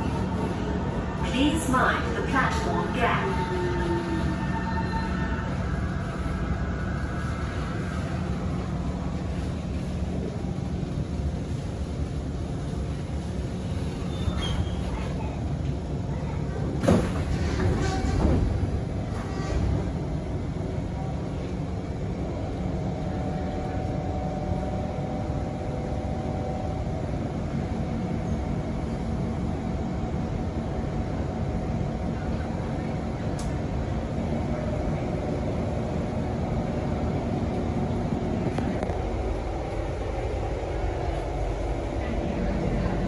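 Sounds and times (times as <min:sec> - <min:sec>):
train car mechanical hum: 0:00.0 - 0:43.0.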